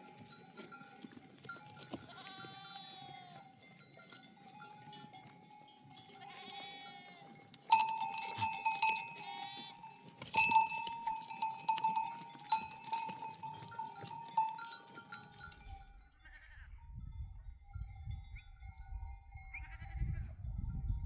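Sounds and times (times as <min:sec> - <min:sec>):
sheep bells clanking: 0:00.0 - 0:21.0.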